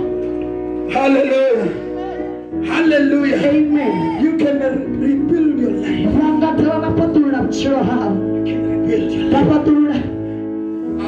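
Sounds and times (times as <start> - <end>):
held instrumental chords: 0.0 - 11.0.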